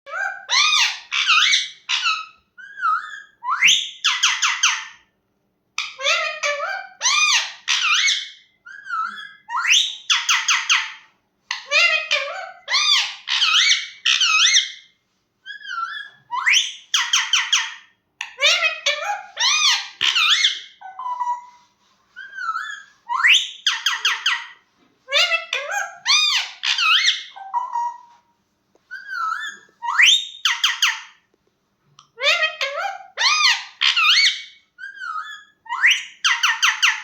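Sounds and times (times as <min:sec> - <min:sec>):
parrot calling and chattering: 0:00.1 - 0:05.1, 0:05.8 - 0:31.2, 0:32.0 - 0:37.0.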